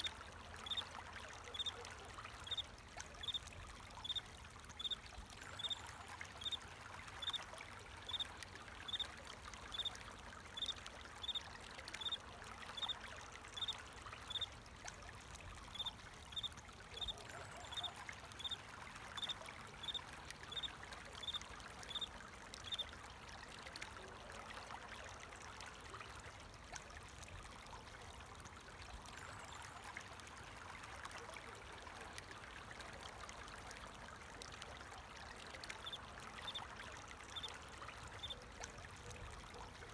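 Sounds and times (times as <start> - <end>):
water flowing in stream: 0.0 - 39.9.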